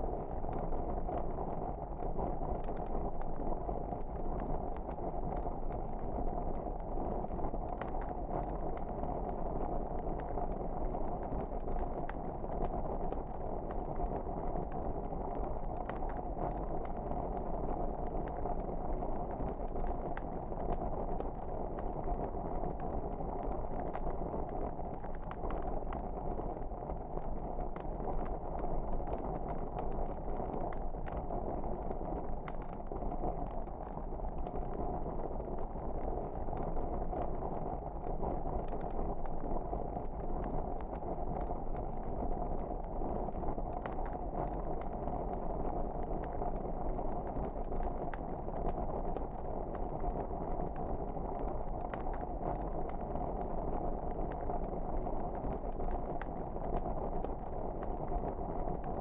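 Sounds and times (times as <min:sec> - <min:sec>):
wood fire crackling: 0:00.2 - 0:59.0.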